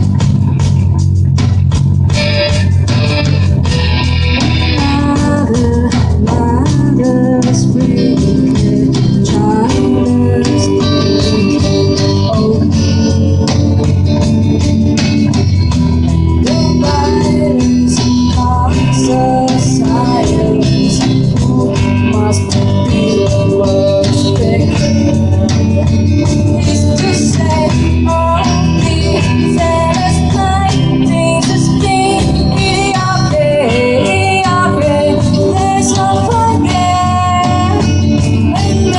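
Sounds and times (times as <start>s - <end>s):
rock band music: 0.0s - 38.9s
person singing: 4.6s - 14.0s, 16.3s - 38.9s.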